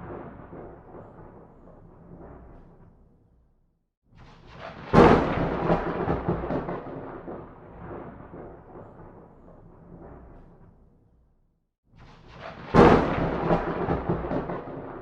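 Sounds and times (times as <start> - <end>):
thunder rumble and crack: 0.0 - 3.2, 4.3 - 11.0, 12.1 - 15.0.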